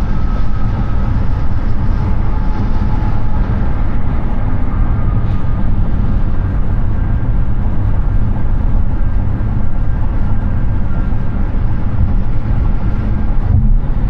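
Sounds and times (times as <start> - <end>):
car tyre and wind rumble: 0.0 - 14.0.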